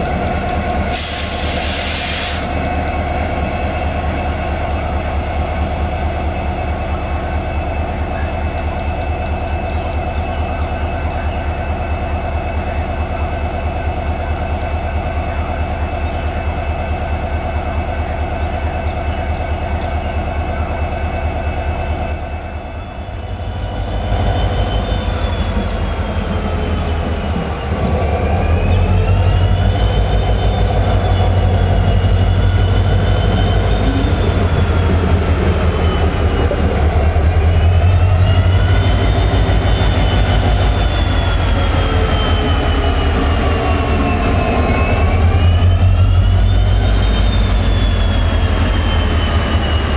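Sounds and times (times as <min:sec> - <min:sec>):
diesel locomotive engine running: 0:00.0 - 0:49.9.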